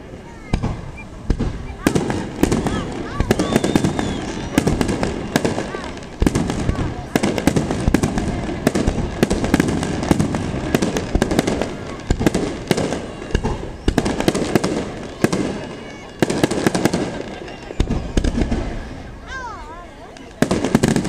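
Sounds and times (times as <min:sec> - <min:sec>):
firework shells bursting: 0:00.5 - 0:19.0.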